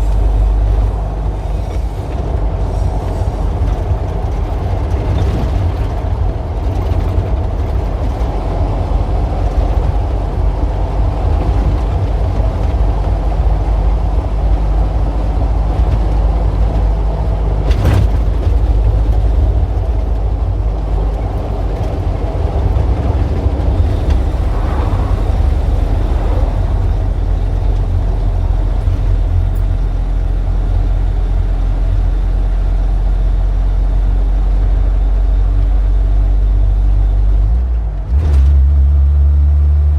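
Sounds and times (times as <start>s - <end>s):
passing vehicles engine rumble: 0.0s - 39.9s.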